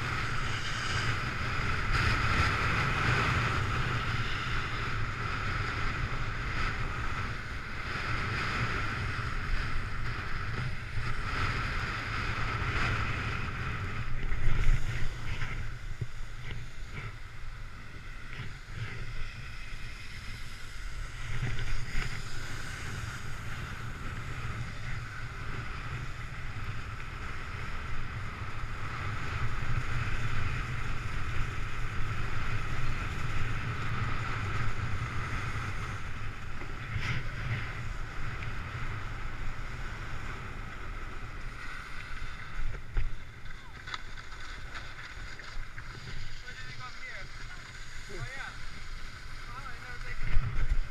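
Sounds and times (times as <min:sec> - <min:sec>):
snowboard scraping over snow: 0:00.0 - 0:50.9
wind on microphone: 0:00.0 - 0:50.9.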